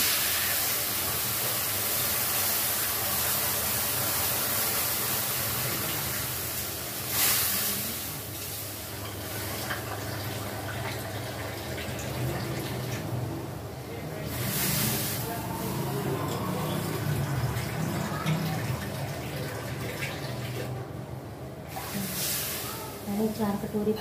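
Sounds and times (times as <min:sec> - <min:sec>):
water hissing on hot metal: 0:00.0 - 0:13.1, 0:14.1 - 0:20.6, 0:21.7 - 0:24.0.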